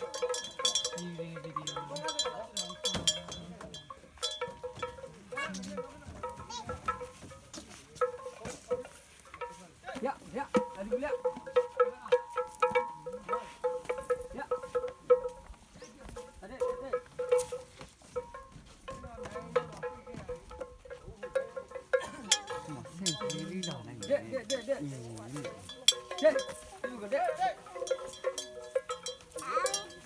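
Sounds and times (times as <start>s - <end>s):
elephant bells clanking: 0.0s - 30.0s.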